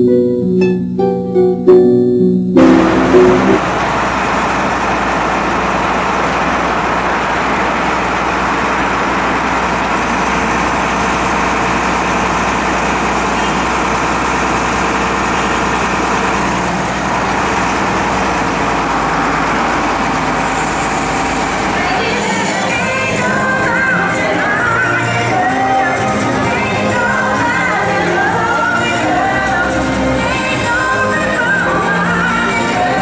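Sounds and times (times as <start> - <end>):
heavy engine running: 2.6 - 33.0.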